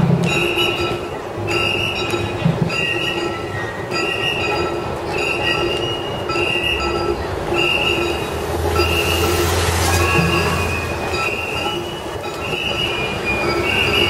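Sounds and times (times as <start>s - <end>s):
crowd noise: 0.0s - 14.0s
shrill high ringing: 0.2s - 14.0s.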